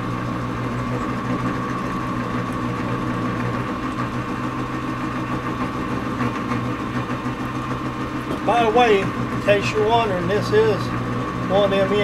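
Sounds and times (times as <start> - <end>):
metal lathe hum: 0.0 - 12.0.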